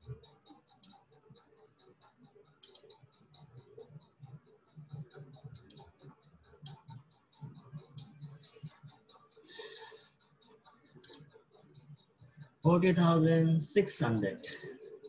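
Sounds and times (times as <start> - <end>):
rapid faint ticking: 0.0 - 15.0.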